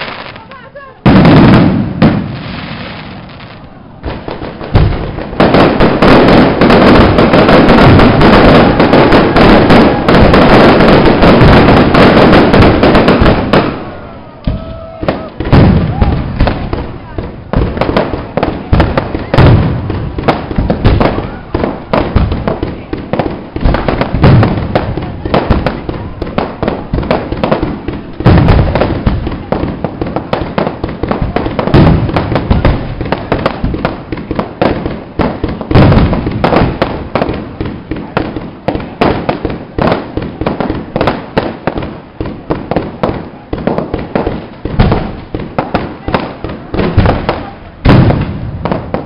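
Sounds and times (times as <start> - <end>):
fireworks booming: 0.0 - 49.0
fireworks crackling: 0.0 - 49.0.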